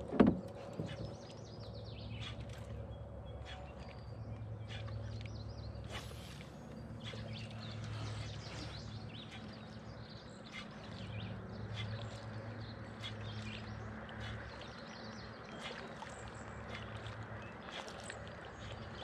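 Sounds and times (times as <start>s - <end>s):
steady low hum: 0.0s - 19.0s
songbirds chirping and singing: 0.1s - 19.0s.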